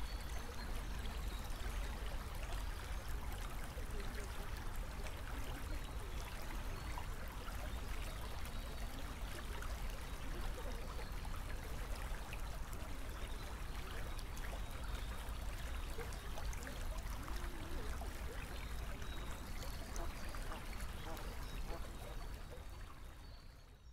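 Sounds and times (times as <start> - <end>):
stream trickling: 0.0 - 23.9.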